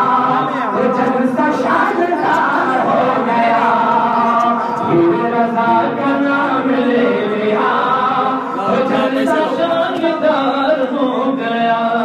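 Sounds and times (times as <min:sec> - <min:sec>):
group chanting devotional song: 0:00.0 - 0:12.0.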